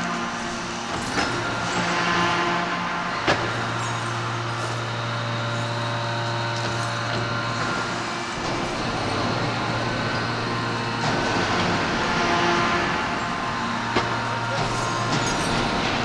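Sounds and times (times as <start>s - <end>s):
low hydraulic hum: 0.0s - 16.0s
machine whir: 0.0s - 16.0s.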